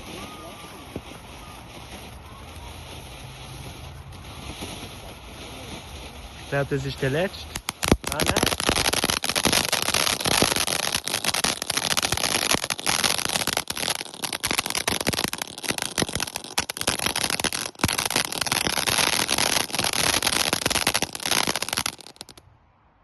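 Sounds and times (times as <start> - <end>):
firework fountain crackling: 0.0 - 22.4.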